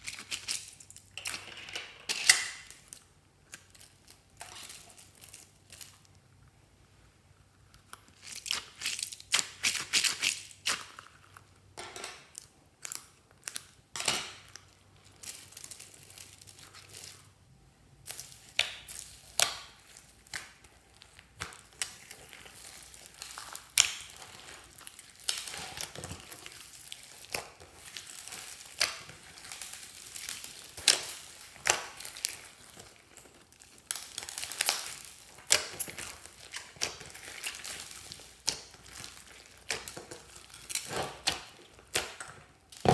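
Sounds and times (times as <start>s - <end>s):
slime crunching and squelching: 0.0s - 1.4s, 2.1s - 6.2s, 7.6s - 11.7s, 12.3s - 17.4s, 18.0s - 42.9s.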